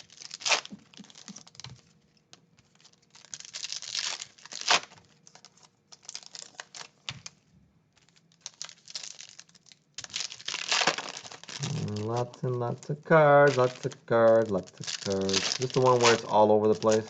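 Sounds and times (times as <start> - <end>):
wrappers crinkling and tearing: 0.0 - 17.0.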